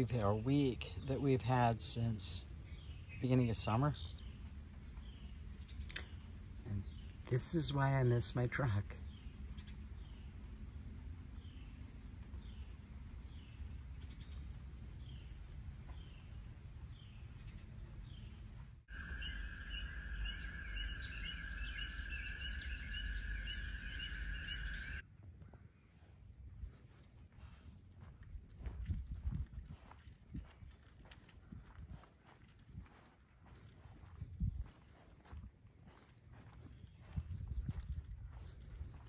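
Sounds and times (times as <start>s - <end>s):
insect trill: 0.0s - 25.2s, 25.8s - 39.0s
insect chirping: 0.0s - 39.0s
low insect drone: 0.0s - 39.0s.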